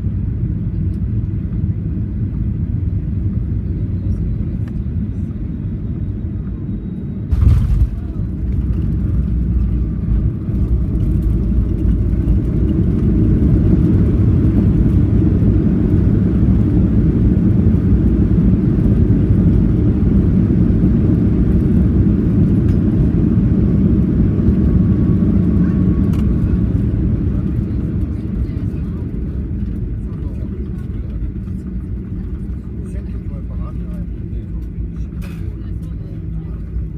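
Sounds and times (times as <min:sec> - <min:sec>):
low aircraft rumble: 0:00.0 - 0:36.9.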